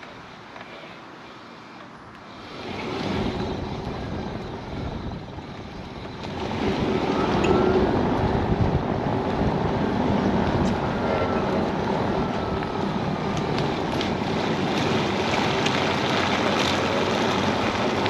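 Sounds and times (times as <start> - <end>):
car road and wind noise: 0.0 - 18.0.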